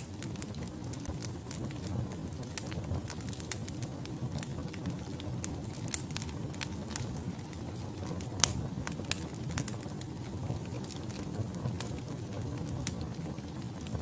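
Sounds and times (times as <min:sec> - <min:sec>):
fire flames rushing: 0:00.0 - 0:14.0
logs crackling and popping: 0:00.0 - 0:14.0.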